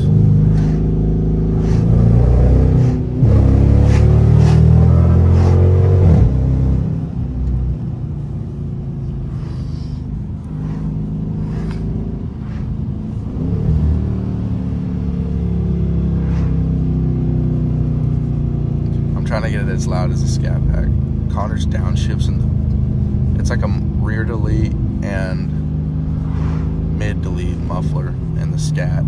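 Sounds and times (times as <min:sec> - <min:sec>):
car engine accelerating from cabin: 0:00.0 - 0:29.0
engine cruising drone: 0:00.0 - 0:29.0.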